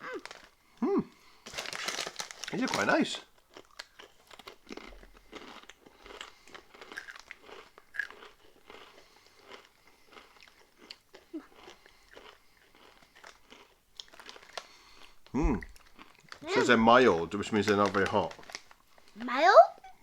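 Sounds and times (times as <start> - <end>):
crunching tortilla chips: 1.5 - 19.2.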